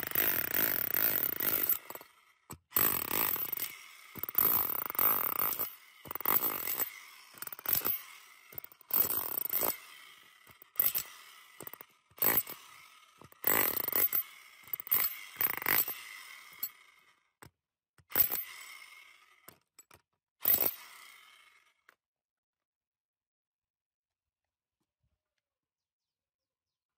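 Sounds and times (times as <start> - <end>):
hammer drill chiselling rock: 0.0 - 21.9.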